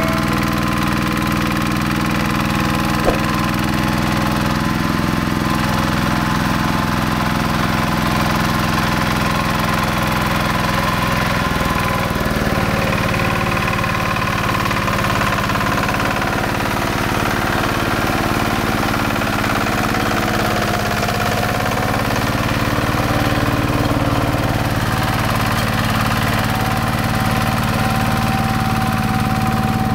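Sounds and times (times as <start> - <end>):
hand tractor diesel engine running: 0.0 - 29.9.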